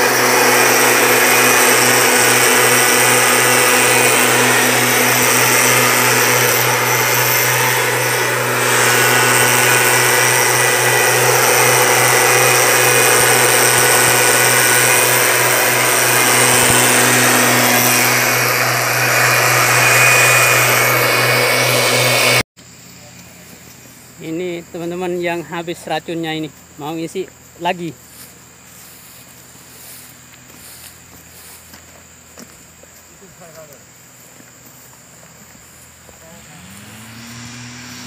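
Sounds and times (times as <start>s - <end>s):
mist blower engine and fan running: 0.0s - 31.8s, 32.4s - 38.0s.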